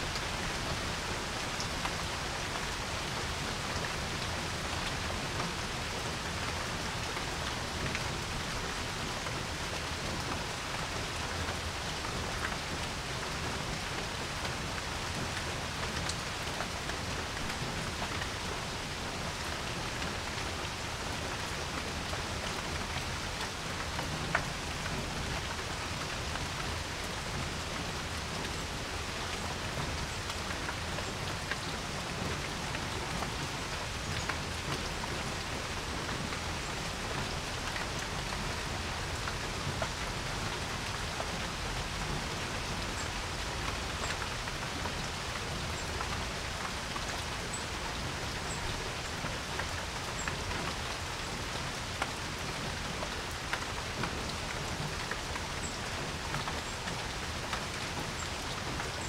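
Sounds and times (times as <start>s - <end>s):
rain hissing on a porch: 0.0s - 59.0s.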